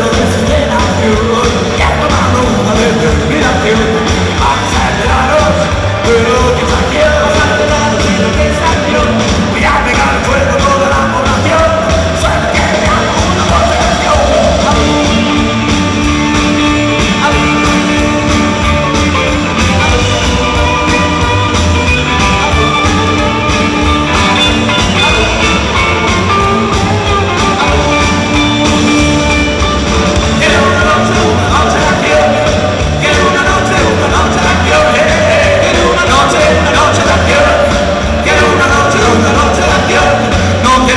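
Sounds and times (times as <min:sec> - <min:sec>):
person singing: 0:00.0 - 0:29.4, 0:30.2 - 0:40.9
guitar: 0:00.0 - 0:40.9
rock and roll music: 0:00.0 - 0:40.9.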